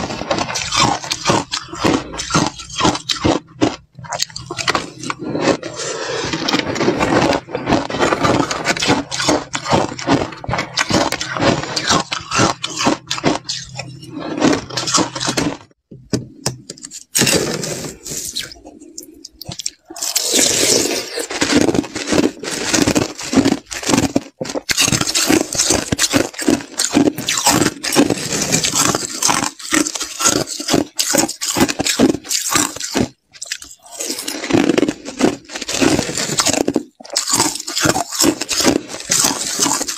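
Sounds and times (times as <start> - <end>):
chewing crunchy ice: 0.0 - 15.8, 17.1 - 39.9.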